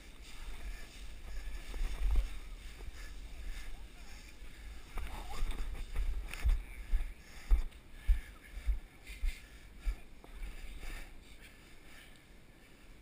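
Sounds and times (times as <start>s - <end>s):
running footsteps on grass and straw: 0.0s - 11.1s.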